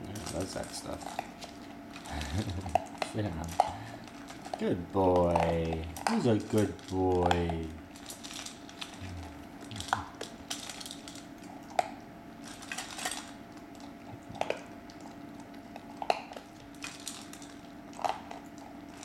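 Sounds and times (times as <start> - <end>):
puppy crunching kibble: 0.0 - 19.0.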